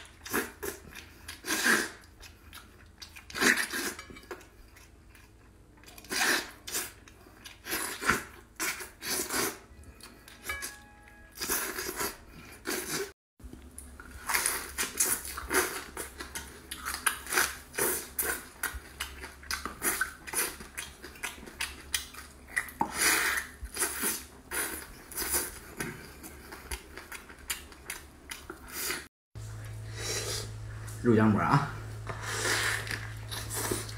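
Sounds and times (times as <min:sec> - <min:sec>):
chewing fried fish: 0:00.0 - 0:10.5, 0:11.4 - 0:29.1.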